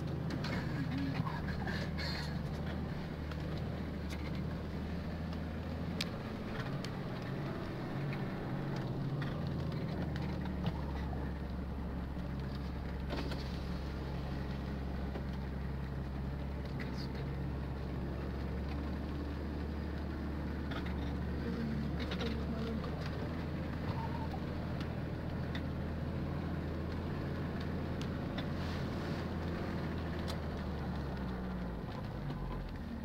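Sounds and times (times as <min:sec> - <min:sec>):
engine drone inside cab: 0:00.0 - 0:33.0.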